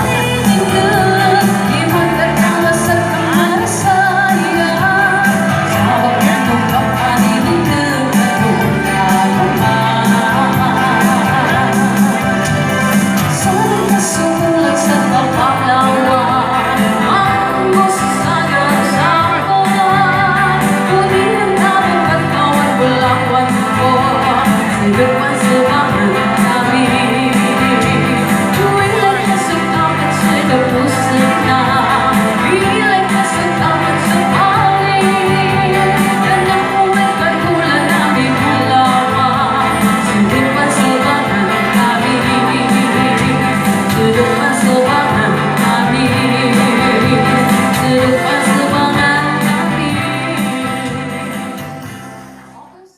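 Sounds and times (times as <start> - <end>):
band accompaniment: 0.0 - 52.6
person singing: 0.0 - 52.9.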